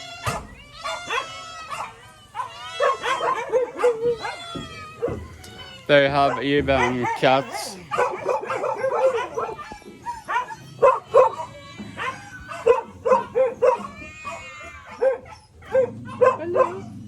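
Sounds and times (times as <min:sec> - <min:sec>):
dog whining: 0:00.0 - 0:17.0
dogs barking and yipping: 0:00.0 - 0:17.0.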